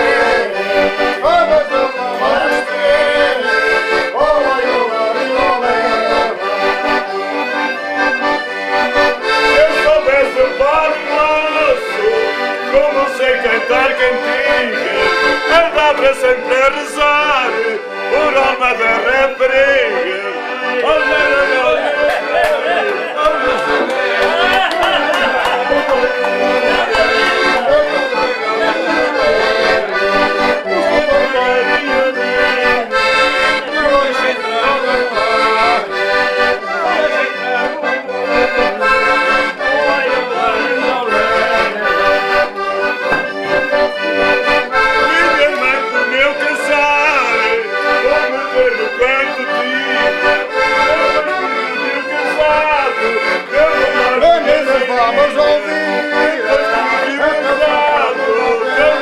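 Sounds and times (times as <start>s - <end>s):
button accordions playing folk tune: 0.0s - 59.0s.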